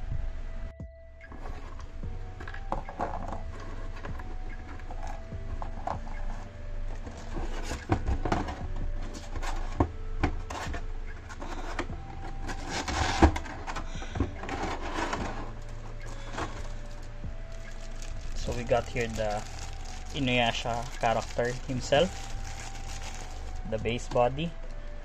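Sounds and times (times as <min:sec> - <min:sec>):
plastic packaging rustling and crinkling: 0:01.3 - 0:24.8.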